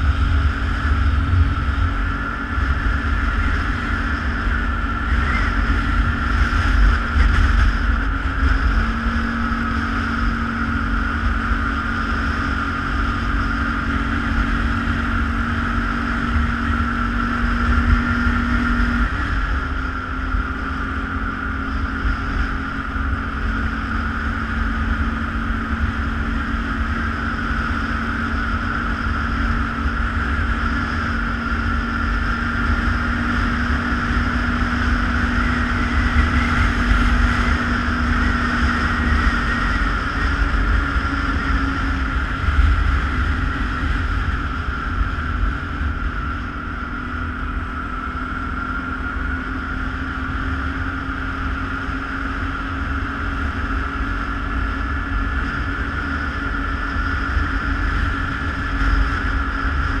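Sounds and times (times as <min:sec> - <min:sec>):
atv engine running: 0:00.0 - 1:00.0.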